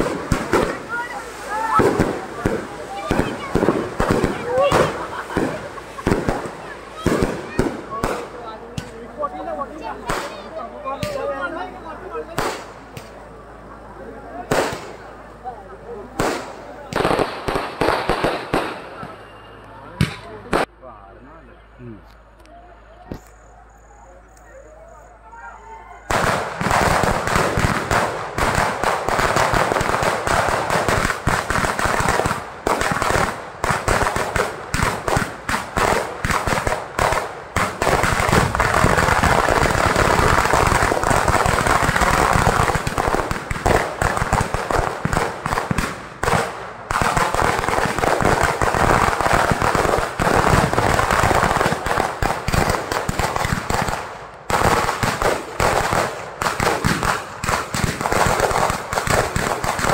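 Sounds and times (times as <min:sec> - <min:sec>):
firecrackers crackling: 0:00.0 - 0:20.8, 0:24.2 - 0:59.9.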